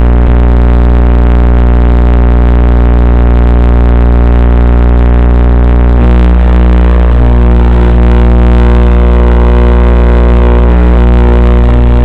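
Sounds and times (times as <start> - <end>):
loud electrical buzz: 0.0 - 12.0.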